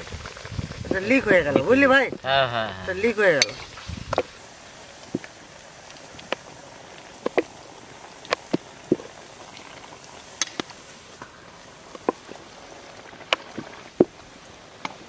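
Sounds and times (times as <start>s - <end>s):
bubbling hiss: 0.0s - 15.0s.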